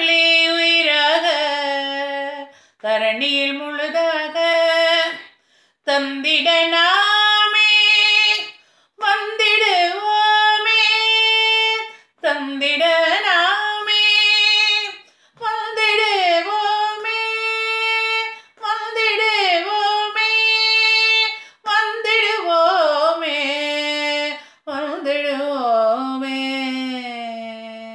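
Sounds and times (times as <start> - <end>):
woman singing unaccompanied: 0.0 - 27.9.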